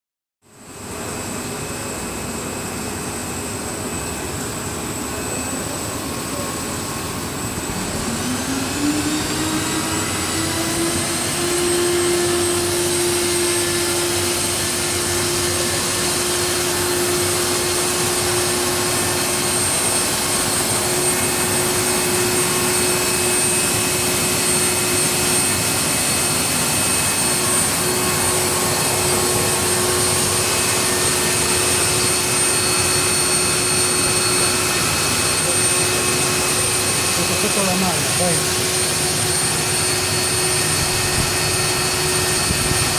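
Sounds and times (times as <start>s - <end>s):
extrusion machine blower rush: 0.5s - 42.9s
motor whine rising in pitch: 0.8s - 42.9s.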